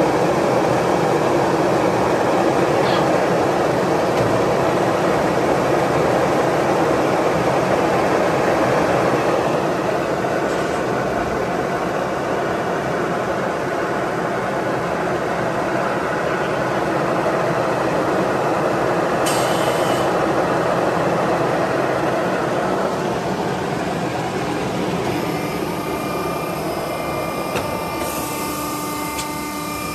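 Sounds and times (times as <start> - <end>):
factory machinery running: 0.0 - 29.9.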